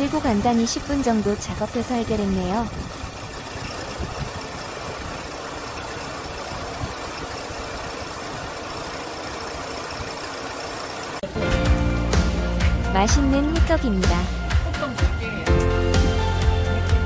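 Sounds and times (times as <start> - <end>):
air conditioning running: 0.0 - 14.8
car engine idling: 0.0 - 17.0.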